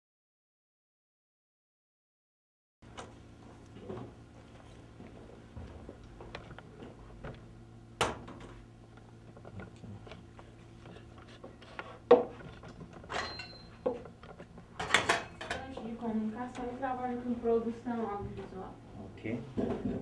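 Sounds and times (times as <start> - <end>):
low steady hum: 2.8 - 20.0.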